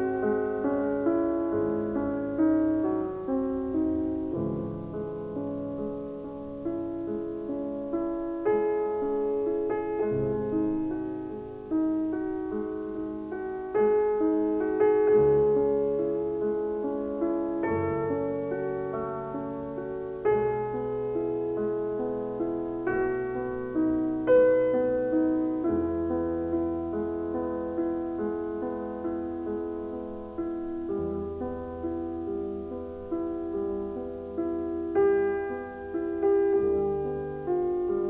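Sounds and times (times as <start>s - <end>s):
slow piano music: 0.0s - 38.0s.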